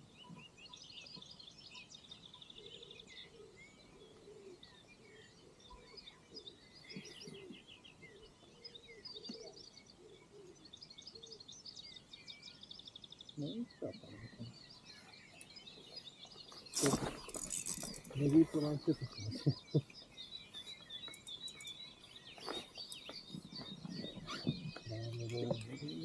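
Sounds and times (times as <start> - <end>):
faint songbirds singing: 0.0 - 26.0.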